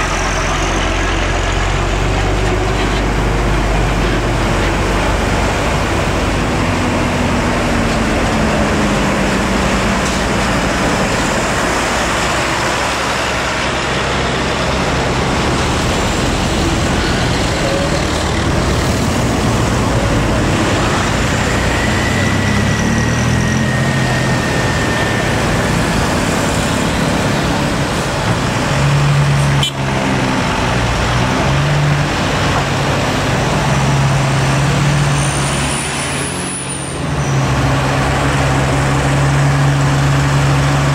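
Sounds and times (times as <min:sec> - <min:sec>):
diesel engines of bus and trucks: 0:00.0 - 0:40.9.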